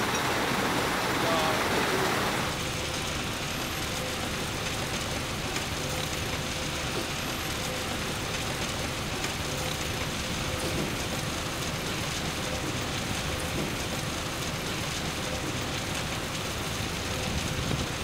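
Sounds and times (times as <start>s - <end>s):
conveyors running: 0.0s - 18.0s.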